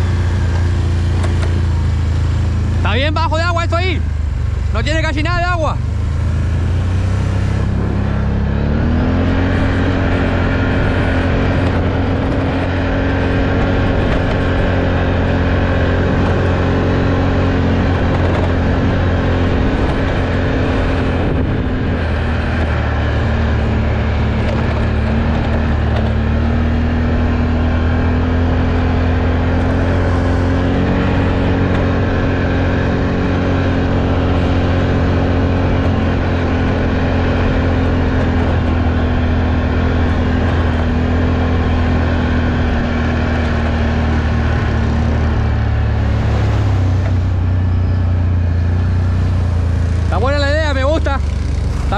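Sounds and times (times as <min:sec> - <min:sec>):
off-road vehicle engine: 0:00.0 - 0:51.9.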